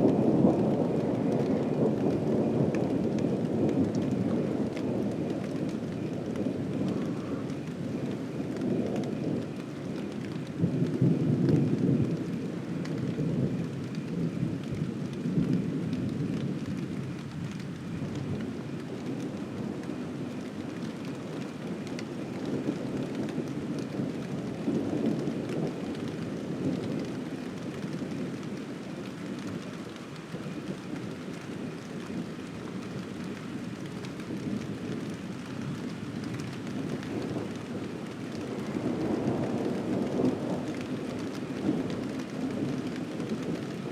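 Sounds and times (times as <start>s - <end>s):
thunder rumbling: 0.0s - 28.6s, 30.6s - 43.9s
steady rain: 0.0s - 43.9s.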